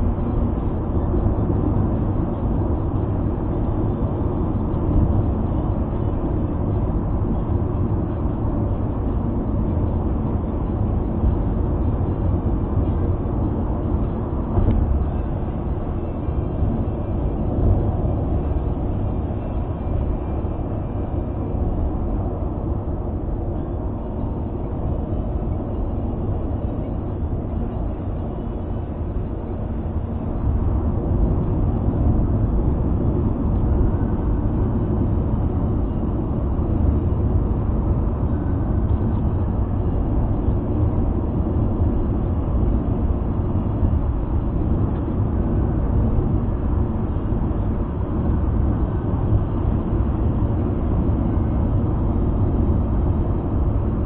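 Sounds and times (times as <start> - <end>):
car engine hum: 0.0 - 54.0
road and tyre noise: 0.0 - 54.0.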